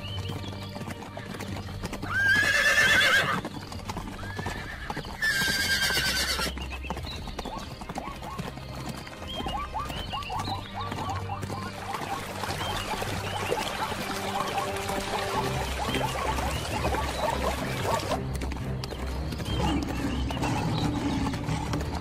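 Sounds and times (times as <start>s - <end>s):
hoofbeats: 0.0s - 22.0s
horses whinnying: 1.0s - 18.4s, 19.0s - 22.0s.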